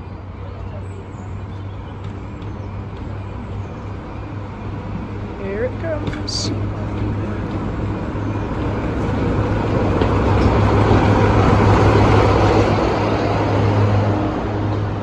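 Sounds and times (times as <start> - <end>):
diesel locomotive passing: 0.0 - 15.0.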